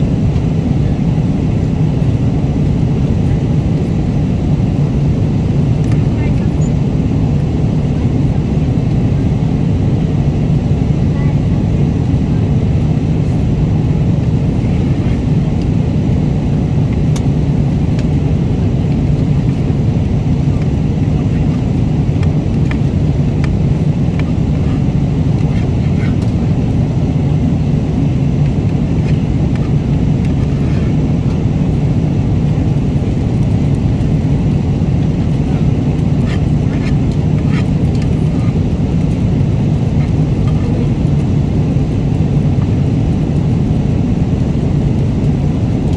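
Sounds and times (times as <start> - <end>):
airliner cabin rush: 0.0 - 45.9.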